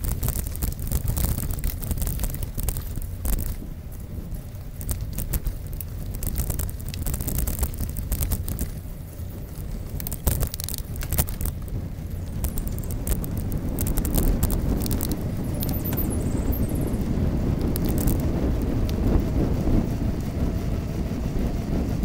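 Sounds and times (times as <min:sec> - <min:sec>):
bike rattling over bumps: 0:00.0 - 0:22.0
wind rumble on microphone: 0:00.0 - 0:22.0.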